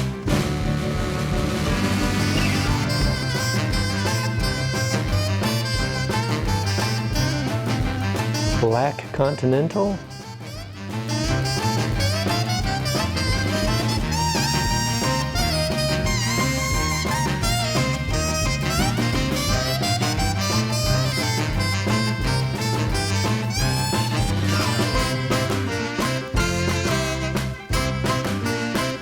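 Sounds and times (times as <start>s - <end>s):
swing music with brass: 0.0s - 29.0s.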